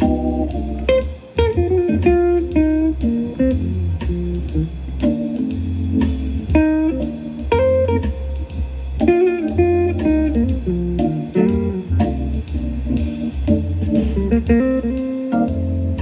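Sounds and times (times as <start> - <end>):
blues electric guitar music: 0.0 - 16.0.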